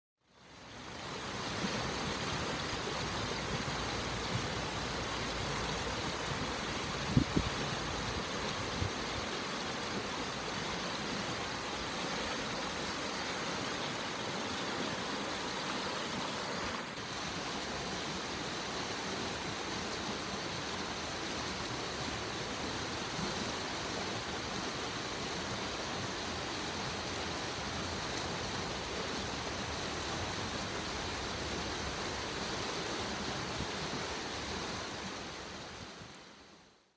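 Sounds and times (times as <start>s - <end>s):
river rushing over rocks: 0.3s - 36.8s.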